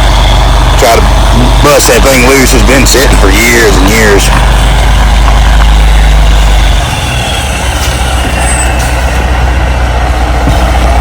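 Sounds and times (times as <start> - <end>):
tow truck engine working hard: 0.0 - 11.0.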